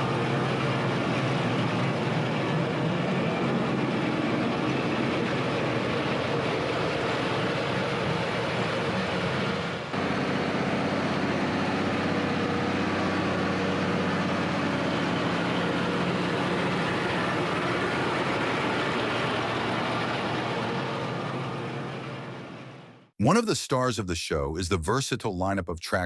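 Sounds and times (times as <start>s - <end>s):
diesel tractor engine running: 0.0s - 22.9s.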